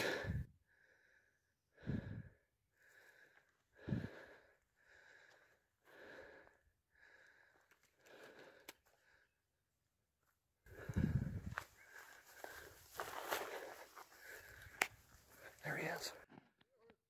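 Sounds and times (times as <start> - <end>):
person breathing heavily: 0.0 - 9.5, 10.7 - 16.3.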